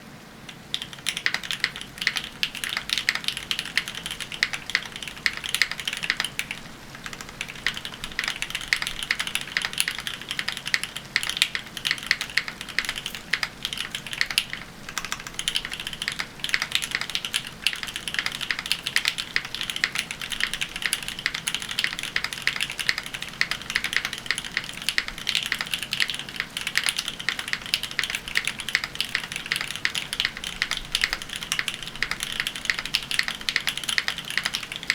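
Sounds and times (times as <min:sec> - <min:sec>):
mechanical keyboard typing: 0:00.5 - 0:34.9.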